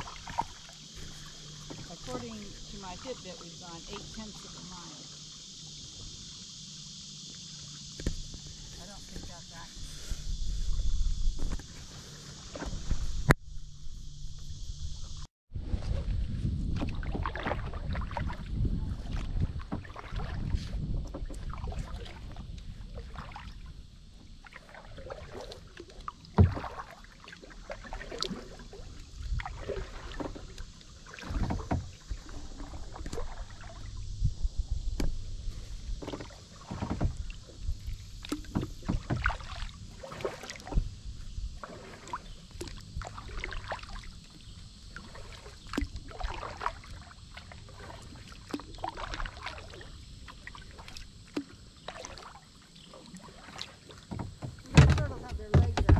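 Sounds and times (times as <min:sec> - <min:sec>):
paddle splashing in water: 0:00.0 - 0:13.4, 0:15.6 - 0:55.9
water dripping and lapping: 0:00.0 - 0:13.4, 0:16.7 - 0:55.9.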